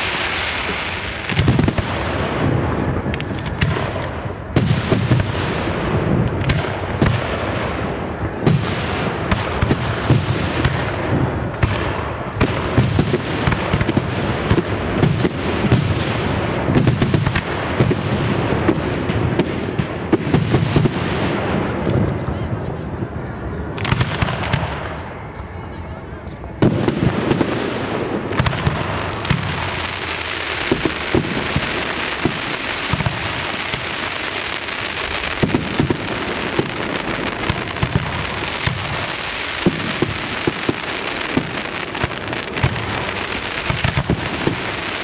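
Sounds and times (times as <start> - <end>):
fireworks bursting: 0.0 - 45.0
fireworks hissing rush: 0.0 - 45.0.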